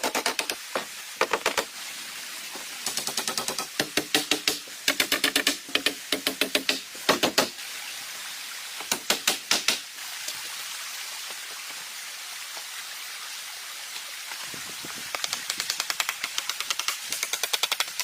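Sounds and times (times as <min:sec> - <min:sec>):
steady rushing hiss: 0:00.0 - 0:12.6, 0:13.6 - 0:18.0.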